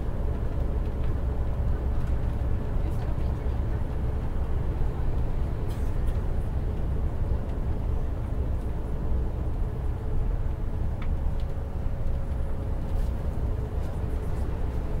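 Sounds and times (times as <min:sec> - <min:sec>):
bus engine and tyres rumble: 0:00.0 - 0:15.0.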